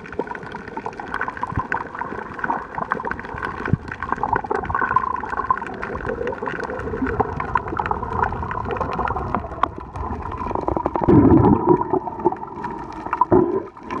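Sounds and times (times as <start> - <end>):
low rush of bubbles: 0.0 - 14.0
underwater crackle of clicks: 0.0 - 14.0
water gurgling underwater: 0.0 - 14.0.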